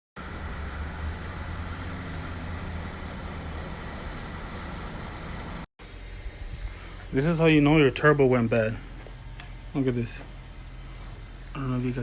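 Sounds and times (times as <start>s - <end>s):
turbocharged car engine running: 0.2s - 12.0s.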